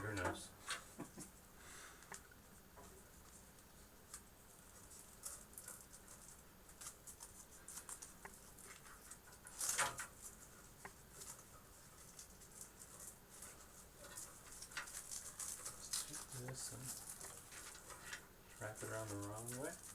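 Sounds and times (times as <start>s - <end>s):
cables clicking and rustling: 2.0s - 19.9s.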